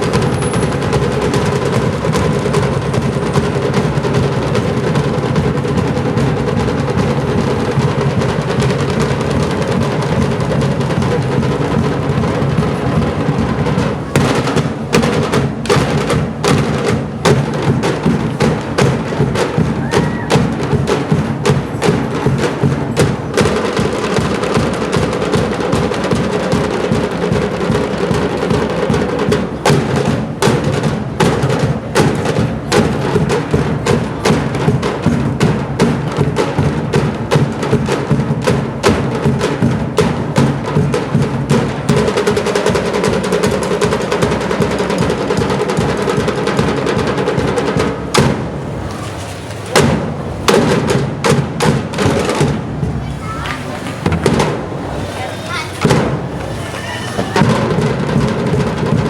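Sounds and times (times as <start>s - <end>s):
fast percussion music: 0.0s - 59.0s.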